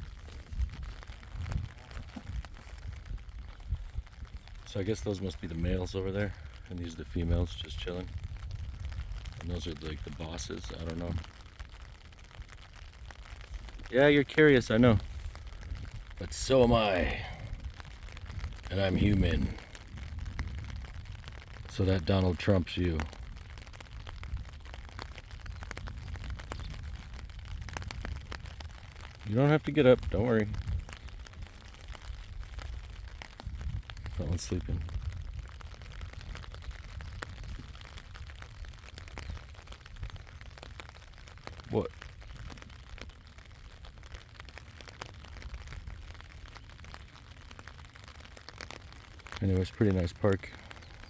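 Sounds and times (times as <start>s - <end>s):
raindrops tapping on umbrella: 0.0s - 51.0s.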